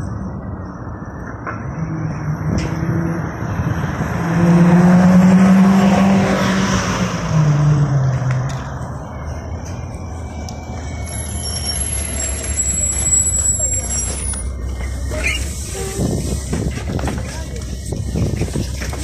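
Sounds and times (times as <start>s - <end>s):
bus approaching: 0.0s - 19.0s.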